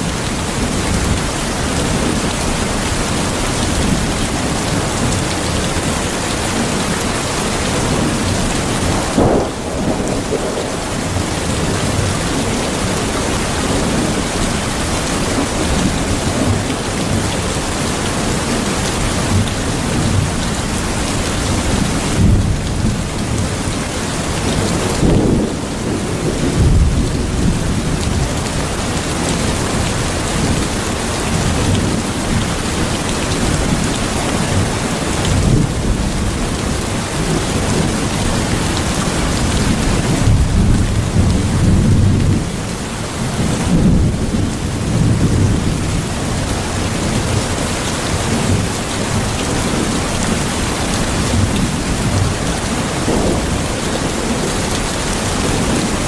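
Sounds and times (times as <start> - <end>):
heavy rain: 0.0 - 56.0
thunder rumbling: 0.6 - 17.8, 19.2 - 56.0.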